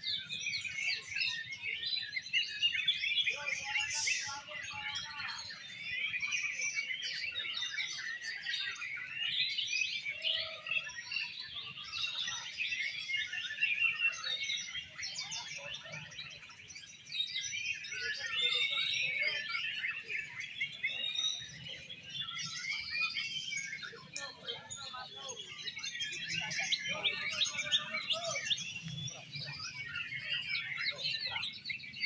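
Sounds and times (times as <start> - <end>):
songbirds whistling and trilling: 0.0 - 32.0.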